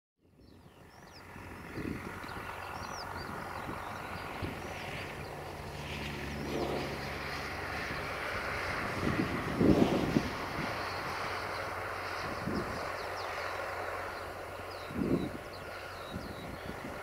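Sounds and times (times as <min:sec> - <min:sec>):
small birds chirping: 0:00.3 - 0:09.4, 0:10.4 - 0:17.0
distant tractor engine running: 0:00.4 - 0:17.0.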